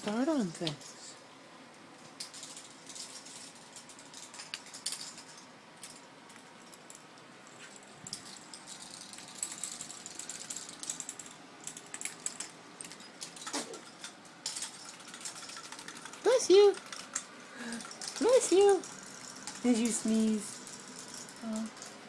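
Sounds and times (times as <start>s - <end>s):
plastic pieces clicking and clattering: 2.1s - 7.2s, 7.8s - 22.0s.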